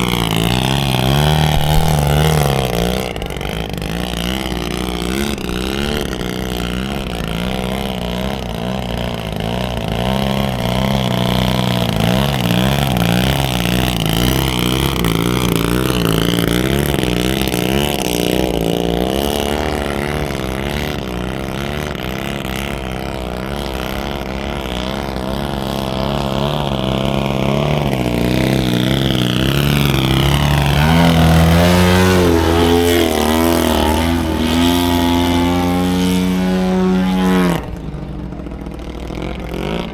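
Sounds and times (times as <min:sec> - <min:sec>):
model airplane engine: 0:00.0 - 0:39.9.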